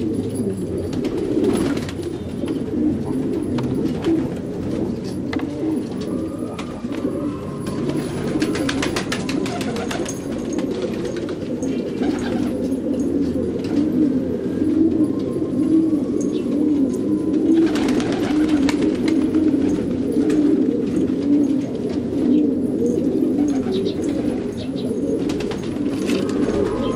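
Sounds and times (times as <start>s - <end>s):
pigeons cooing: 0.0s - 26.9s.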